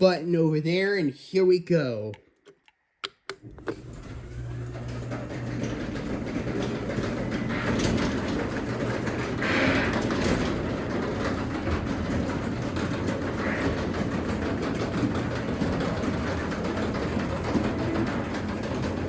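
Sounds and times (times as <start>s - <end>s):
garage door opener motor humming: 3.4s - 19.0s
garage door rattling: 3.7s - 19.0s.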